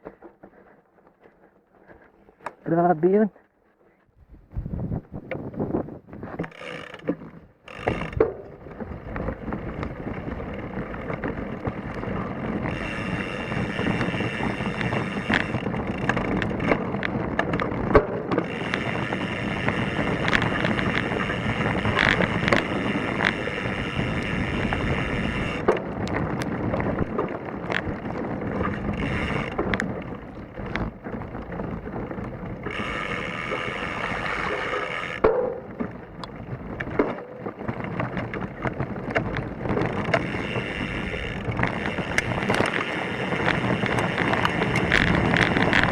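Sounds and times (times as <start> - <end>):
wind on microphone: 4.1 - 45.9
bike rattling over rocks: 5.2 - 45.9.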